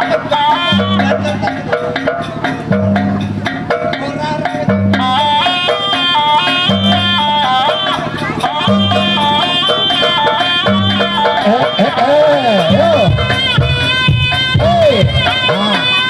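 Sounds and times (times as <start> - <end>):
dense drumming: 0.0 - 16.0
high melody in short notes: 0.0 - 16.0.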